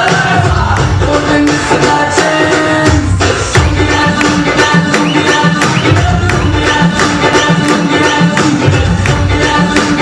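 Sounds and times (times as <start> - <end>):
dance music over sound system: 0.0 - 10.0.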